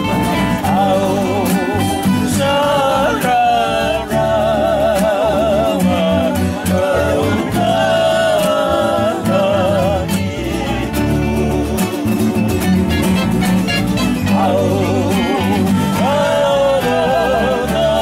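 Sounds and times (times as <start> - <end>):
men singing with vibrato: 0.0 - 18.0
strummed acoustic guitar: 0.0 - 18.0.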